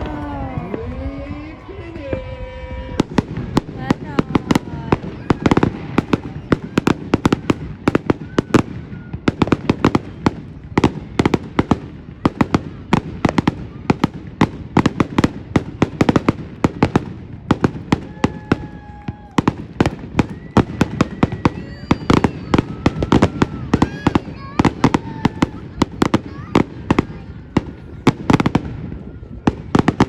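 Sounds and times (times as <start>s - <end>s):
fireworks cracking and popping: 0.0s - 30.0s.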